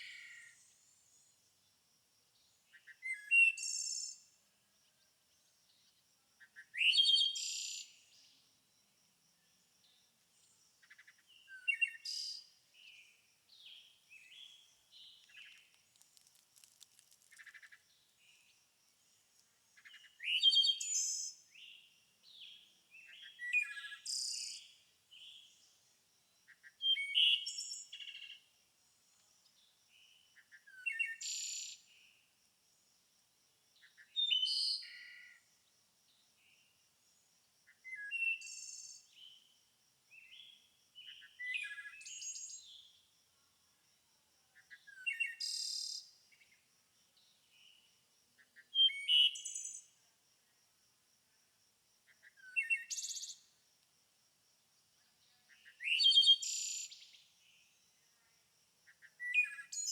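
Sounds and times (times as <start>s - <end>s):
songbird song phrases: 0.0s - 53.6s, 54.5s - 59.9s.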